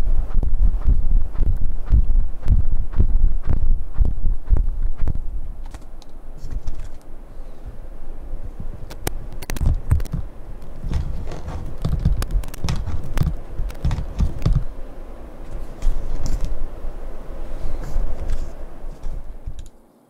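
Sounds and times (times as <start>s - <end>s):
microphone cable handling noise: 0.0s - 19.8s.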